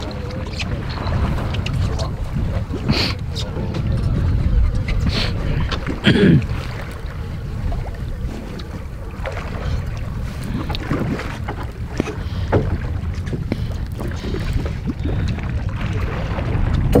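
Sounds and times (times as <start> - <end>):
boat on open water: 0.0 - 17.0
wind on microphone: 0.0 - 17.0.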